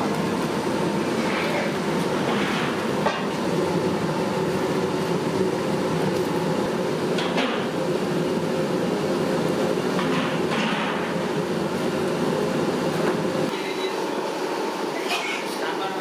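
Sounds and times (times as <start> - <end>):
rushing kitchen noise: 0.0 - 16.0.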